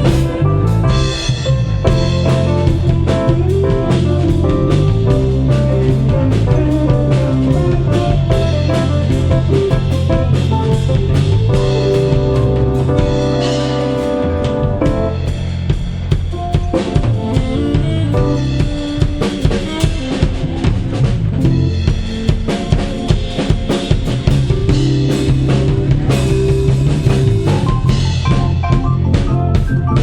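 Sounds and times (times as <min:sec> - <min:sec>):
drum kit hits: 0:00.0 - 0:30.0
live band music: 0:00.0 - 0:30.0.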